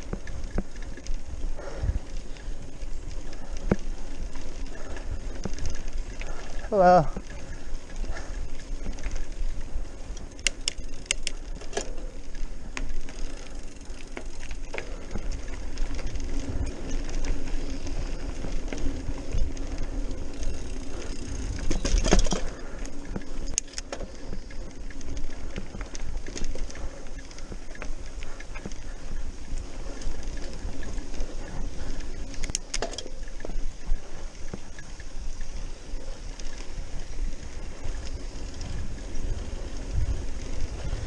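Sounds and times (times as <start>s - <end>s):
bike rattling over bumps: 0.0s - 41.0s
bike tyre and wind noise: 0.0s - 41.0s.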